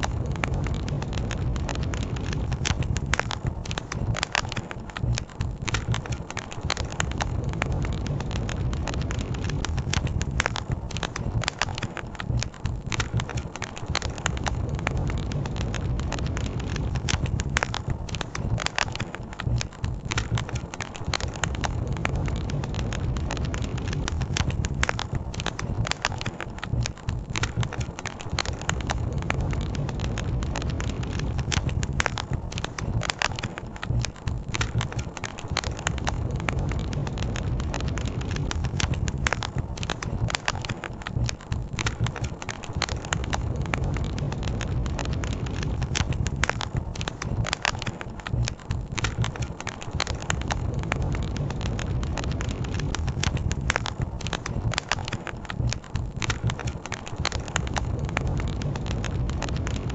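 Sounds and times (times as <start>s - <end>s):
low rumble: 0.0s - 56.7s, 57.3s - 59.9s
campfire crackling: 0.0s - 59.9s
sharp pops and snaps: 0.0s - 59.9s.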